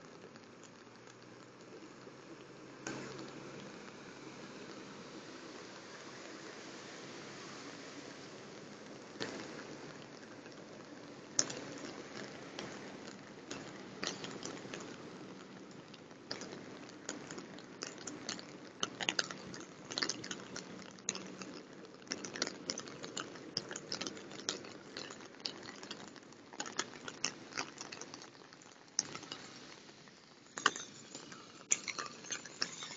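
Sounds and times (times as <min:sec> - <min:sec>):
crackling clicks: 0:00.0 - 0:05.0, 0:08.5 - 0:32.9
rainwater rushing over street: 0:00.0 - 0:32.9.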